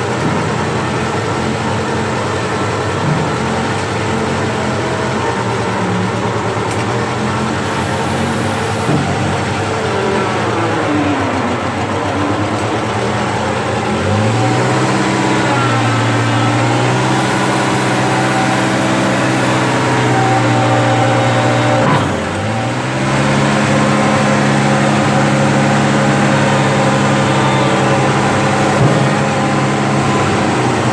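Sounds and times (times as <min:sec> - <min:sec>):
skid steer engine running: 0:00.0 - 0:30.9.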